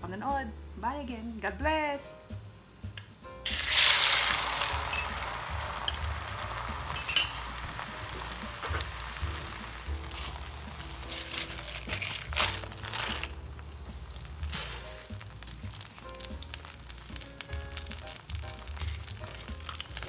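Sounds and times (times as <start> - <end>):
soft music: 0.0 - 20.0
egg sizzling in a frying pan: 3.4 - 20.0.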